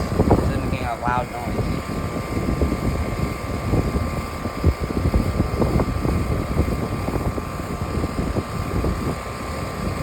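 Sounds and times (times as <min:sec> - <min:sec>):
air conditioner unit running: 0:00.0 - 0:10.0
gusty low rumble: 0:00.0 - 0:10.0.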